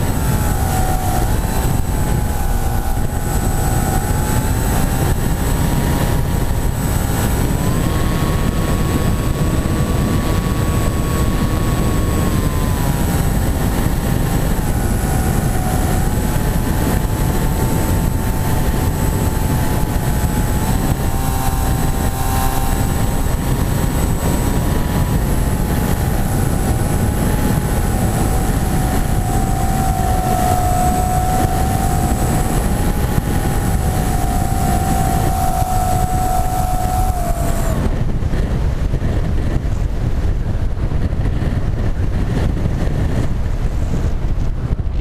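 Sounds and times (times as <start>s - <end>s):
propeller motor whining: 0.0s - 45.0s
wind rumble on microphone: 0.0s - 45.0s.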